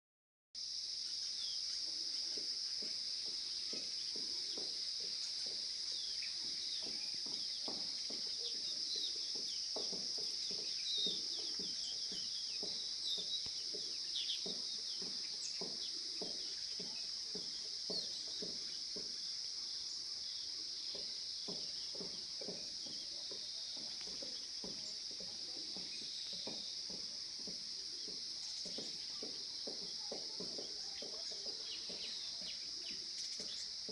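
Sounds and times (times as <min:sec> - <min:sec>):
high-pitched insect drone: 0:00.6 - 0:33.9
bird chirps: 0:01.0 - 0:33.9.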